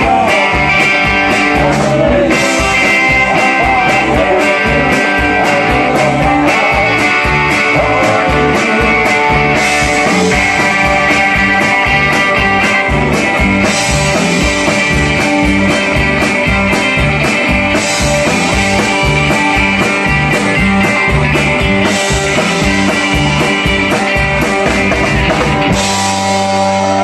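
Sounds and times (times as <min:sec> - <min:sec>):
drum kit beat: 0:00.0 - 0:27.0
electric bass: 0:00.0 - 0:27.0
electric guitar: 0:00.0 - 0:27.0.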